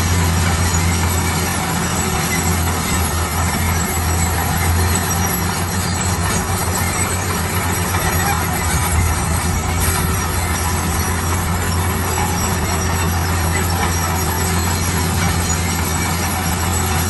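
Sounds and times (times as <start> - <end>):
heavy machinery engine drone: 0.0 - 17.0
loud noisy rumble: 0.0 - 17.0.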